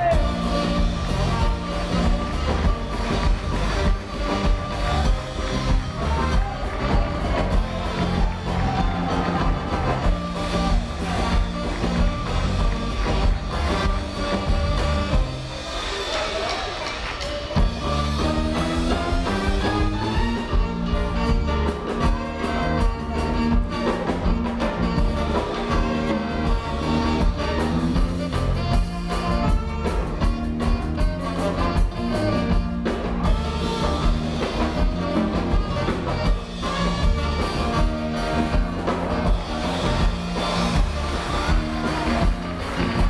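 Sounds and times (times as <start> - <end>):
drums and bass music: 0.0 - 43.0.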